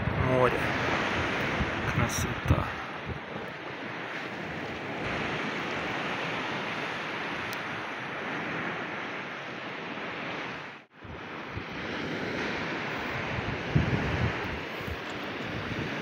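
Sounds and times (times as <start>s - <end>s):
surf washing on shore: 0.0s - 16.0s
wind on microphone: 0.0s - 16.0s.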